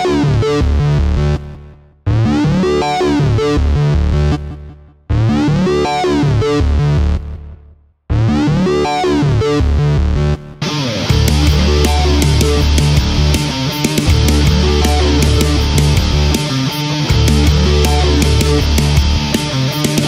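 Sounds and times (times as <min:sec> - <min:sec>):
synthesizer riff over bass line: 0:00.0 - 0:20.0.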